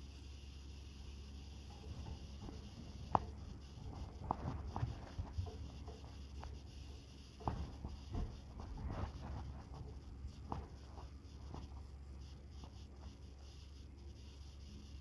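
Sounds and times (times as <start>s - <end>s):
steady low hum: 0.0s - 15.0s
phone rubbing against bedding: 1.7s - 14.5s.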